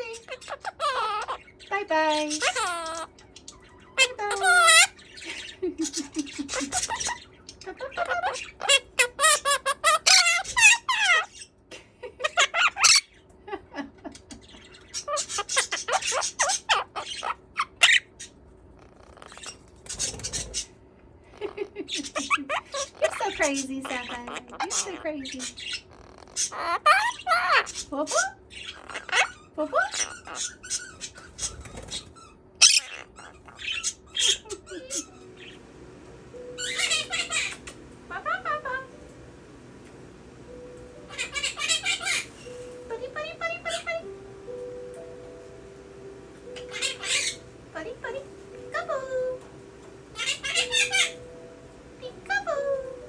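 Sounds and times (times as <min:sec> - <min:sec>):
parrot chattering and squawking: 0:00.0 - 0:13.4, 0:14.0 - 0:35.7, 0:36.5 - 0:39.2, 0:40.5 - 0:53.0.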